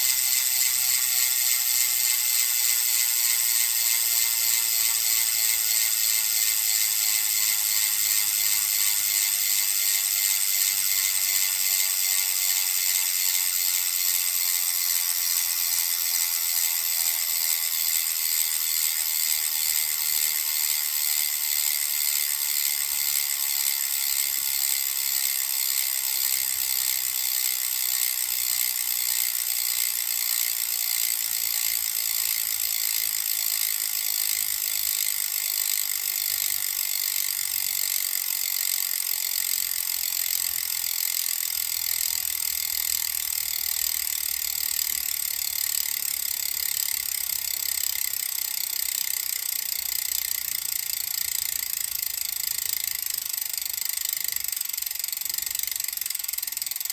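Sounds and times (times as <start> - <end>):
freehub clicking buzz: 0.0 - 56.9.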